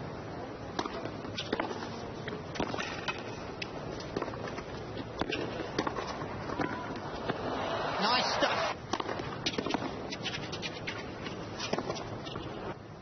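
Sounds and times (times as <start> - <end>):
crowd hum: 0.0 - 12.7
tennis ball hits: 0.7 - 12.6.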